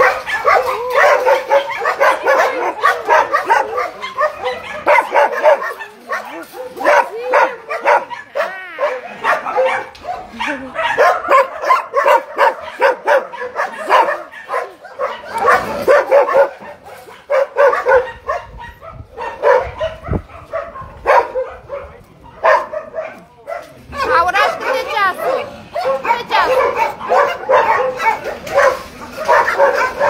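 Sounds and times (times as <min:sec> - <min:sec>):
dogs barking and yelping: 0:00.0 - 0:30.0.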